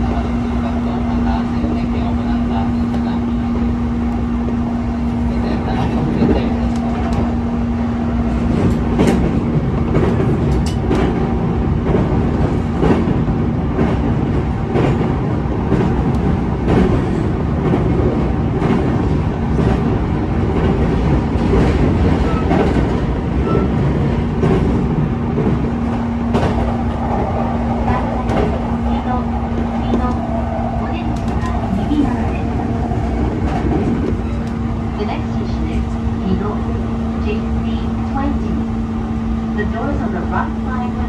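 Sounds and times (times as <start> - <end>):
rail joint clacks: 0.0 - 38.8
train wheels rumbling on rail: 0.0 - 41.0.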